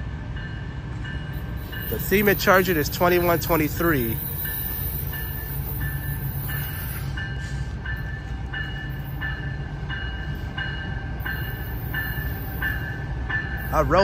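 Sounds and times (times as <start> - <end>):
diesel locomotive rumbling: 0.0 - 14.0
bell ringing: 1.2 - 14.0.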